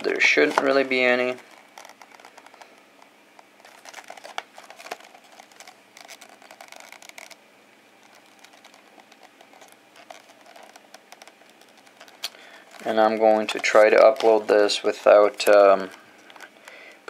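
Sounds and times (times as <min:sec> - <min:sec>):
faint clicks and crinkles: 0:00.3 - 0:17.0.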